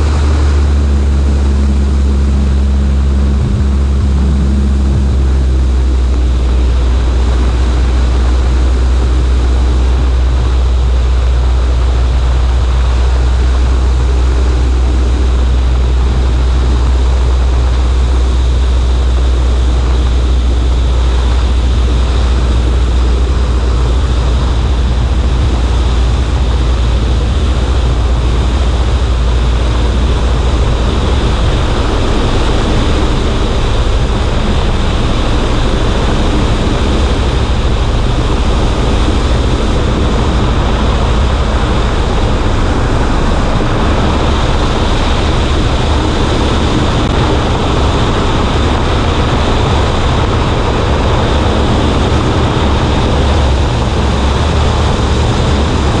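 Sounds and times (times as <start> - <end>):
light aircraft engine drone: 0.0 - 56.0
wind noise on microphone: 0.0 - 56.0.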